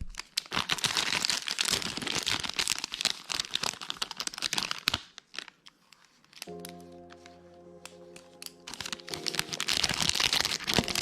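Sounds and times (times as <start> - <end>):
packaging crinkling: 0.0 - 6.8, 8.4 - 11.0.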